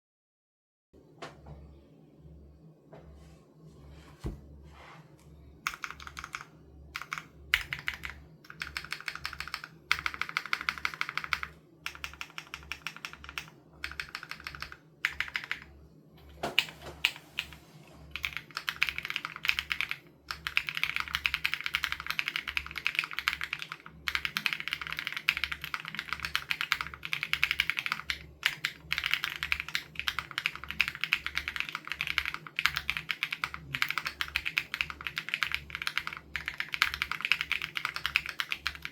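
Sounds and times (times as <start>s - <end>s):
mechanical keyboard typing: 5.6s - 38.9s.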